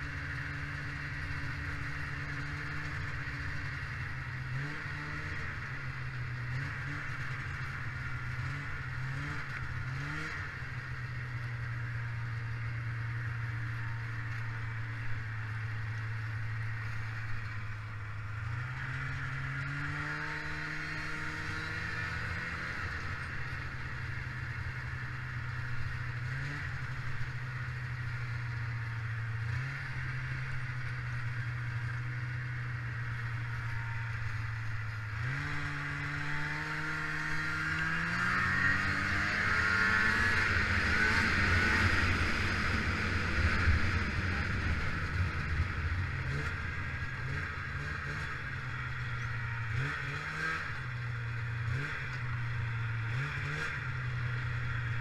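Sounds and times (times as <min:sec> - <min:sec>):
snowmobile engine revving: 0:00.0 - 0:12.6, 0:16.6 - 0:55.0.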